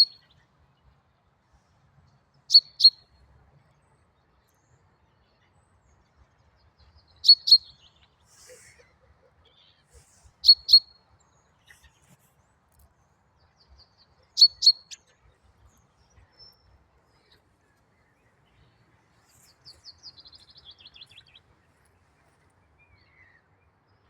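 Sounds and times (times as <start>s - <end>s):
songbirds calling: 0.0s - 24.0s.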